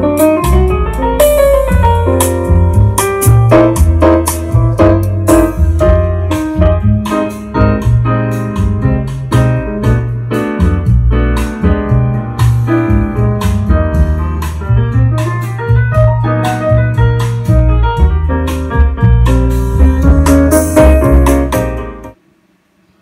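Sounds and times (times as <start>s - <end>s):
piano-led music with drums and bass: 0.0s - 22.2s.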